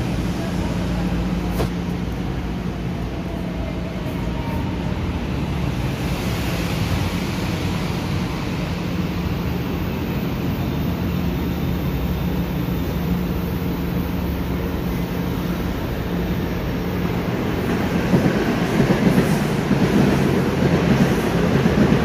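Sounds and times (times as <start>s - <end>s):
train equipment hum: 0.0s - 22.0s.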